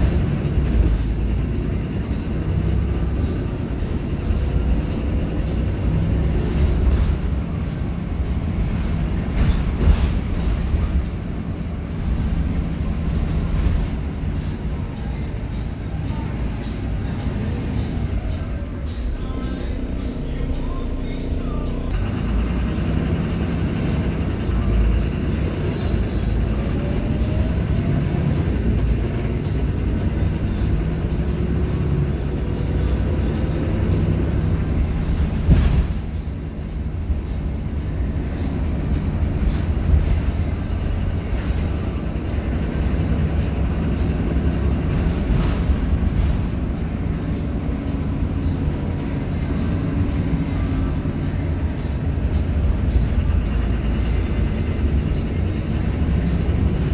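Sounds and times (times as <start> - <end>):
bus diesel engine rumble: 0.0 - 56.9
road noise: 0.0 - 56.9.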